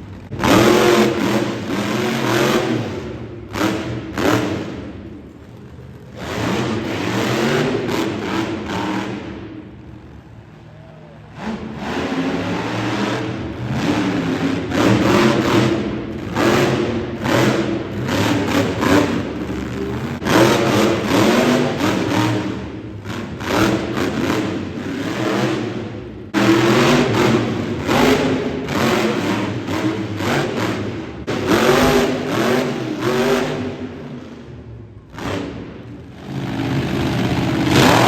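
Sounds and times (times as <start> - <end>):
truck engine revving: 0.0 - 38.0.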